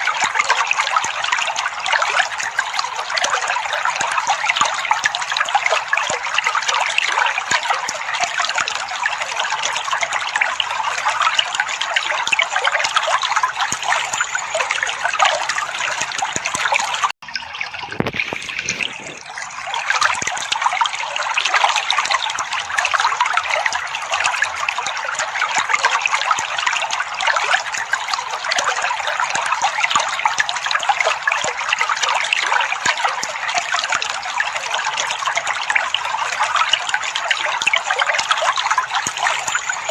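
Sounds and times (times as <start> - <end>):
trickling splashing water: 0.0 - 39.9.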